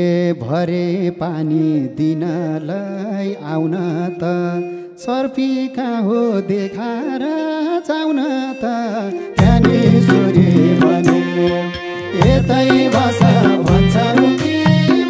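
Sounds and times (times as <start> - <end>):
folk music with ornamented melody: 2.1 - 15.0.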